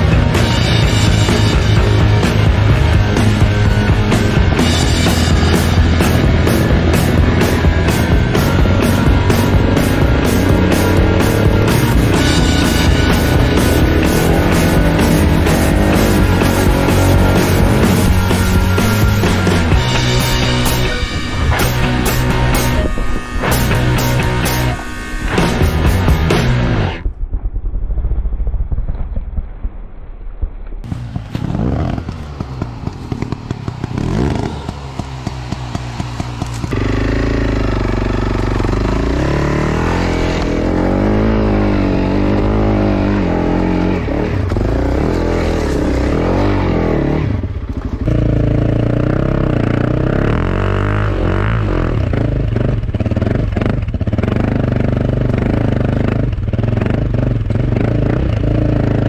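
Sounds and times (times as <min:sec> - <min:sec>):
motorcycle engine revving: 0:00.0 - 0:27.0, 0:30.9 - 0:59.0.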